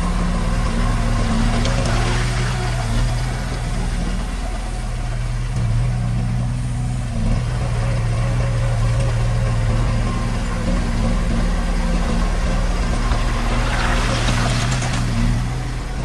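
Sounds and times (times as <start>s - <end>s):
construction machinery diesel engine: 0.0s - 16.0s.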